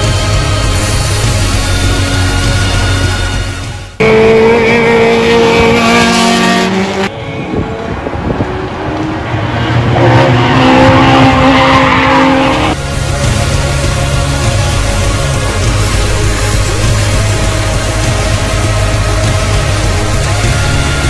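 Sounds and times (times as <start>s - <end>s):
race car engines revving: 1.3s - 21.0s.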